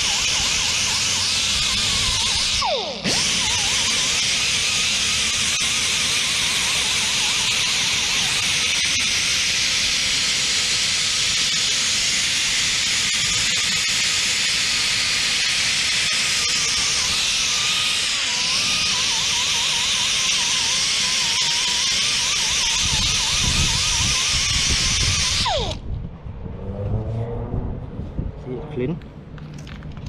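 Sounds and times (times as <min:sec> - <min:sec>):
grinder on rusty metal: 0:00.0 - 0:25.8.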